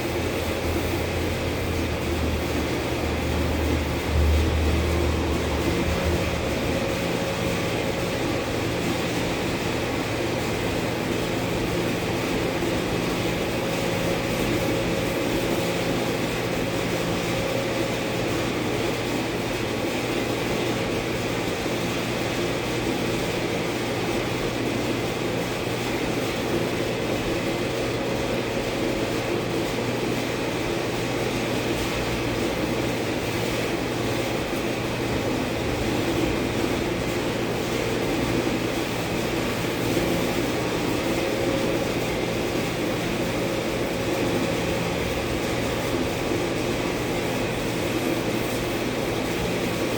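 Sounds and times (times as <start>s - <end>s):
machine drone with low hum: 0.0s - 20.4s, 28.1s - 49.9s.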